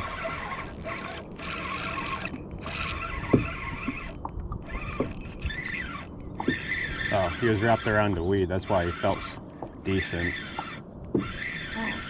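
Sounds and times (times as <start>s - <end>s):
fishing reel squeaks and knocks: 0.0s - 12.0s
water noise: 0.0s - 12.0s.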